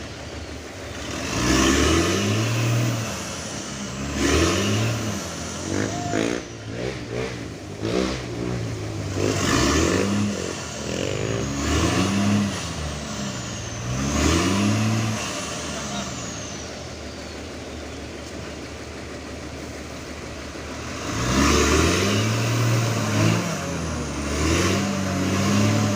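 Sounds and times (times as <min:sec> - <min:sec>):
truck engine revving: 0:00.0 - 0:25.9.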